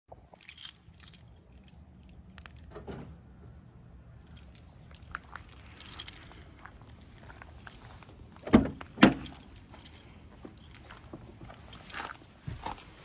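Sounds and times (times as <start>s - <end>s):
car keys jingling: 0.2s - 2.7s, 4.2s - 13.0s.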